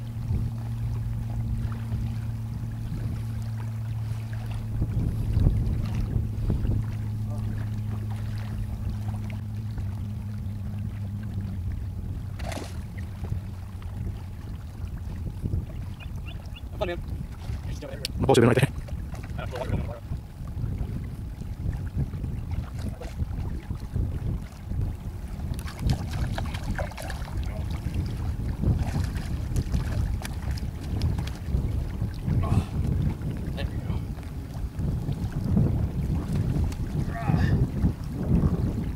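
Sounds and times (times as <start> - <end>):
distant motorboat engine drone: 0.0 - 38.9
wind buffeting microphone: 0.0 - 38.9.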